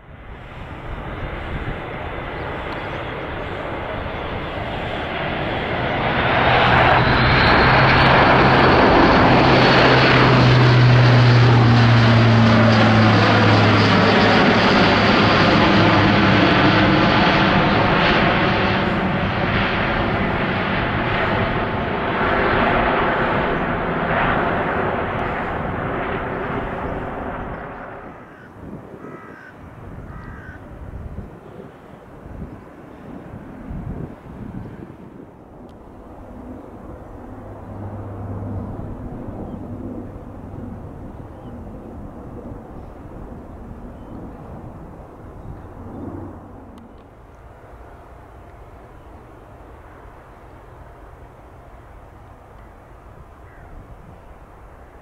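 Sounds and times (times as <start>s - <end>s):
propeller aircraft drone: 0.0s - 55.0s.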